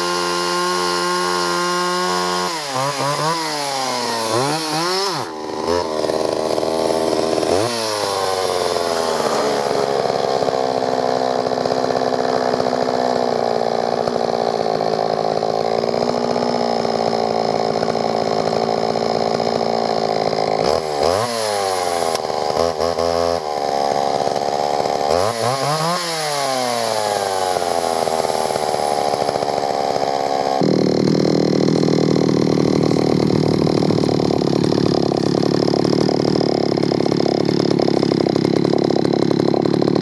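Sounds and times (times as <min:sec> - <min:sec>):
chainsaw running: 0:00.0 - 0:40.0.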